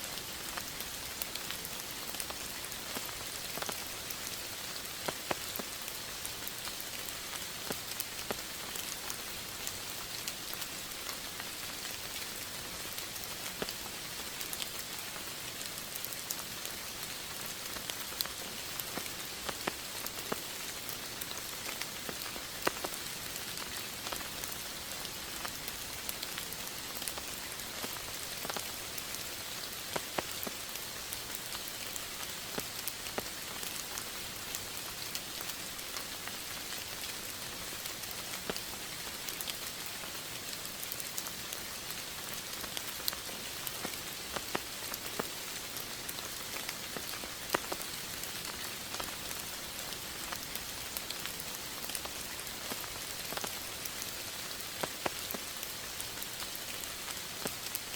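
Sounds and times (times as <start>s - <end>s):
raindrops pattering on surfaces: 0.0s - 57.9s
steady rain hiss: 0.0s - 57.9s.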